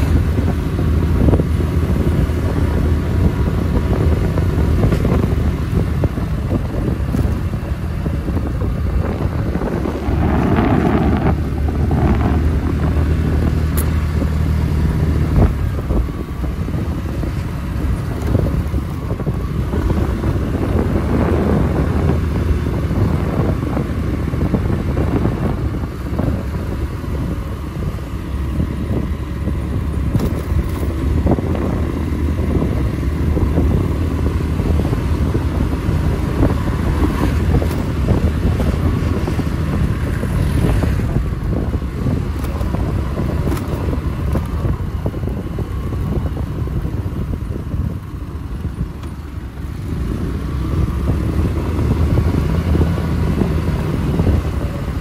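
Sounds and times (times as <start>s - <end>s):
vehicle engine and road rumble: 0.0s - 55.0s
wind buffeting microphone: 0.0s - 55.0s.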